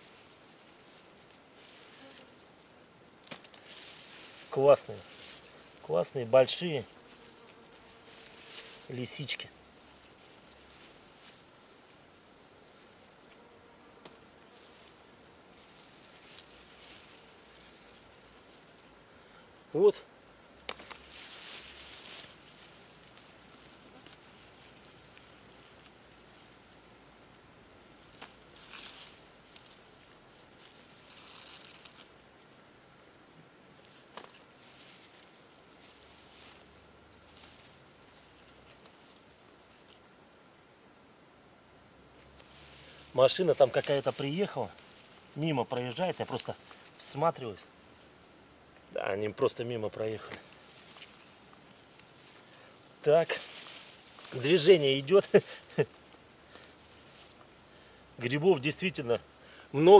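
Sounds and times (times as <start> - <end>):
insects chirring in grass: 0.0 - 59.9.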